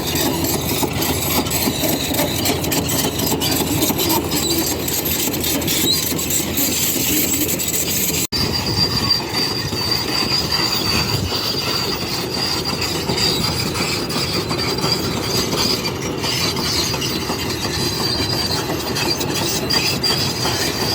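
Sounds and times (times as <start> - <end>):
excavator mechanical din: 0.0 - 20.9
metallic squealing: 0.0 - 20.9.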